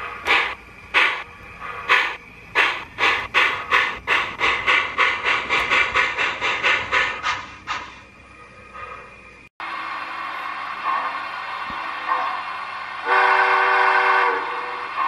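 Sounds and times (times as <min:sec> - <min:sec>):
steam locomotive hissing chuffs: 0:00.0 - 0:15.0.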